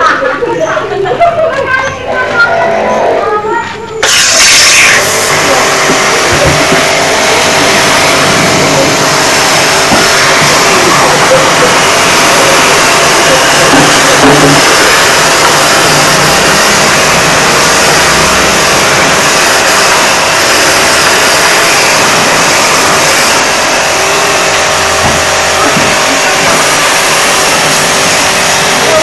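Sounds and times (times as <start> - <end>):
pressure washer water jet hissing: 4.0 - 29.0.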